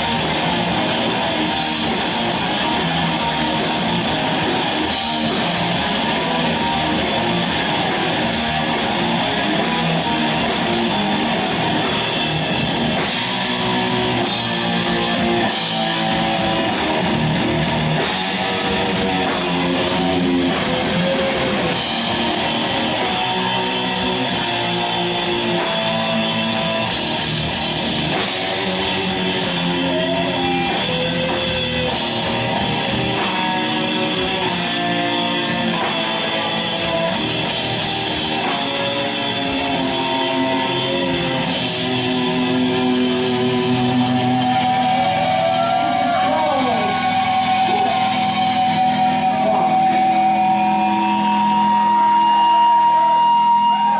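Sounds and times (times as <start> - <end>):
distorted electric guitars: 0.0 - 53.9
drums: 0.0 - 53.9.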